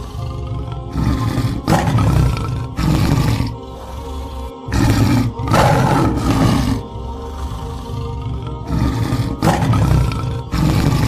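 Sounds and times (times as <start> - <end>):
background music: 0.0 - 11.0
lion roaring: 0.0 - 11.0.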